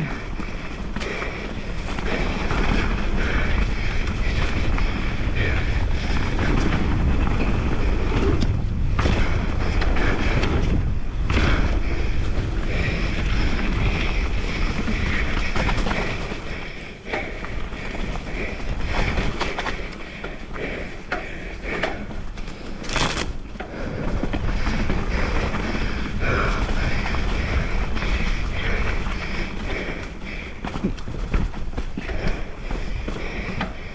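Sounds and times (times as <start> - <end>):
bike rattles and knocks: 0.0 - 33.9
bike tyres on dirt: 0.0 - 33.9
wind buffeting microphone: 0.0 - 33.9.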